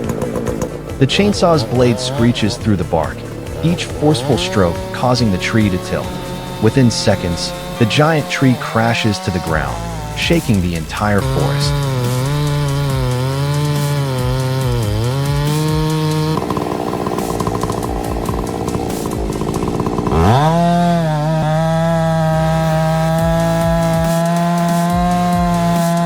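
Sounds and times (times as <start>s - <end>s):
chainsaw engine running: 0.0s - 26.0s.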